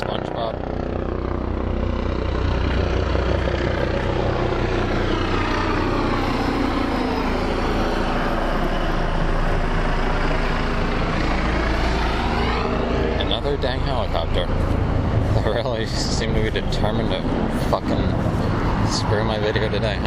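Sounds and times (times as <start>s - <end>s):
helicopter flying by: 0.0s - 20.0s.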